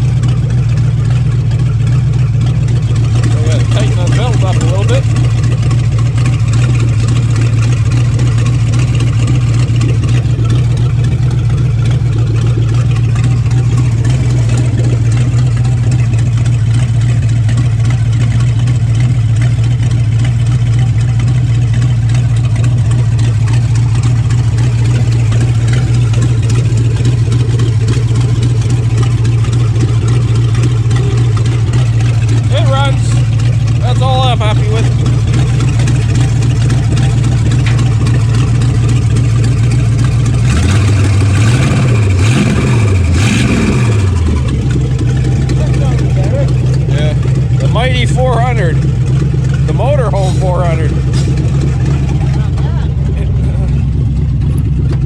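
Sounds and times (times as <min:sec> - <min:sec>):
car engine idling loudly: 0:00.0 - 0:55.0.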